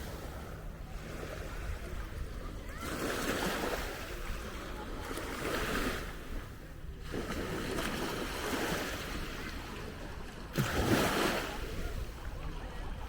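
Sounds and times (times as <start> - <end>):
waves breaking on sandy beach: 0.0 - 13.0.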